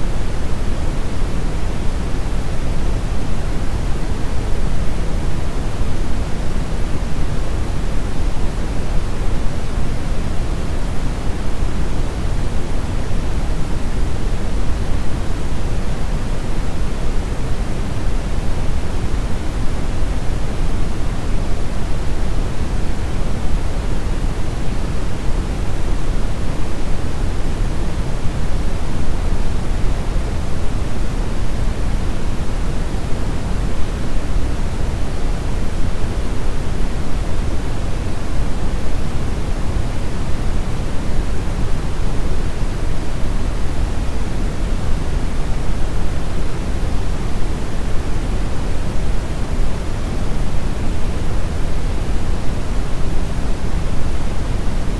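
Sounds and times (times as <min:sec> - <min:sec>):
brown noise hiss: 0:00.0 - 0:54.9.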